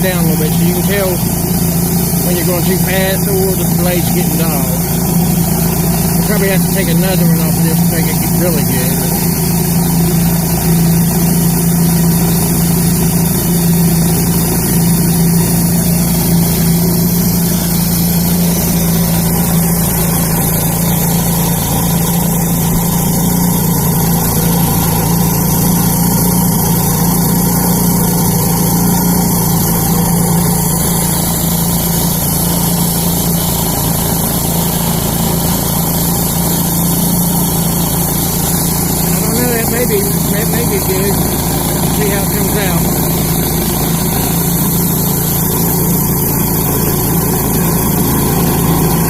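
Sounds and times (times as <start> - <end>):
band blade cutting log: 0.0 - 49.0
bandsaw mill engine humming: 0.0 - 49.0.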